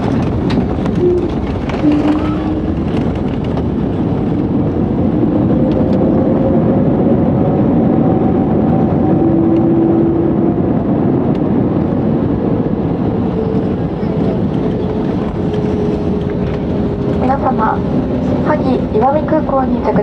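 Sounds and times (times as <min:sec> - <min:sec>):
jet engines and wheels rumbling: 0:00.0 - 0:20.0.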